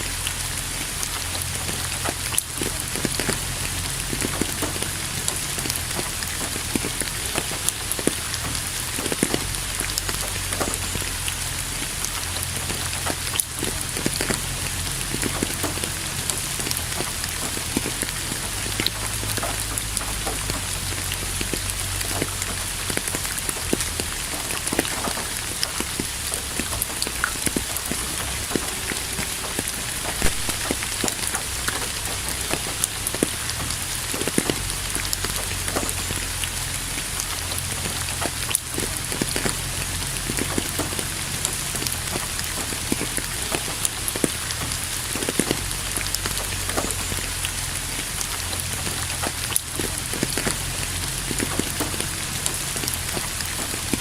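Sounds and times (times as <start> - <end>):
rain hiss: 0.0 - 54.0
raindrops clicking on a surface: 0.0 - 54.0.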